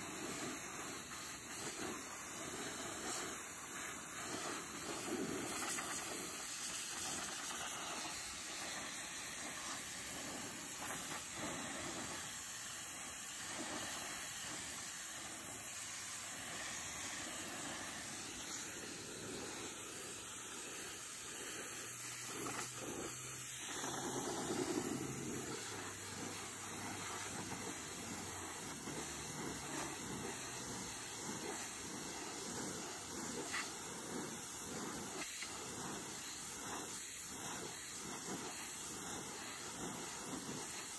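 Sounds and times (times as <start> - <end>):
pressure washer spraying wood: 0.0 - 40.9.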